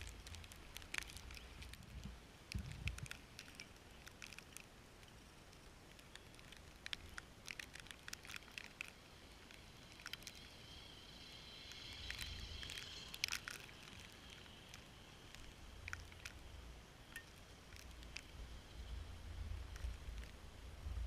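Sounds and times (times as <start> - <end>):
crackles and pattering in snow: 0.0 - 21.0
faint high motor whine: 0.0 - 21.0.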